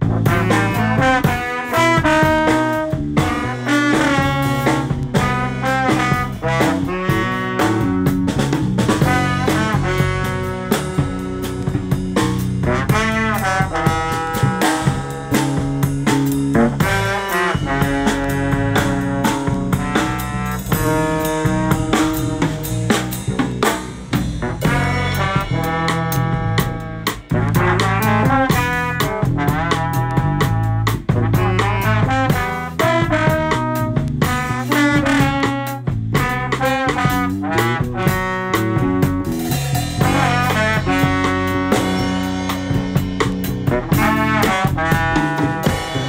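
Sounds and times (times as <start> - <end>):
drum kit beat with cymbals: 0.0 - 46.0
electric bass line: 0.0 - 46.0
trombone jazz melody: 0.0 - 46.0.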